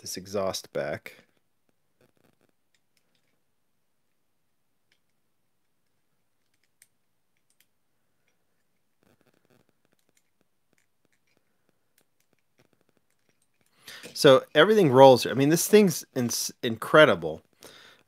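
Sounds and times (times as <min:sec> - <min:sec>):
faint clicks and scratches: 0:01.1 - 0:15.8.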